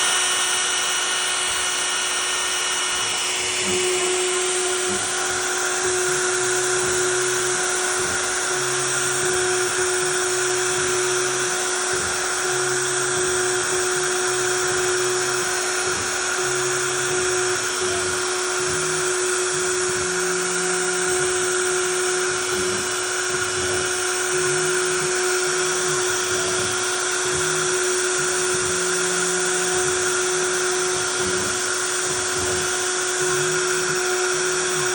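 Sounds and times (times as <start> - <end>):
router spindle whine: 0.0 - 34.9
stepper motors humming: 0.0 - 34.9.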